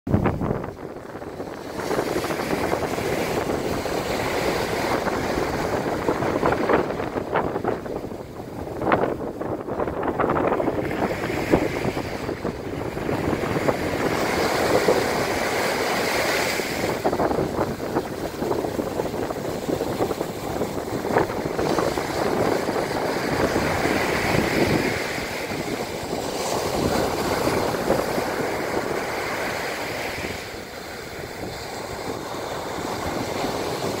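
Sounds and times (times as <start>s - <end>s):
waves breaking on sandy shore: 0.1s - 34.0s.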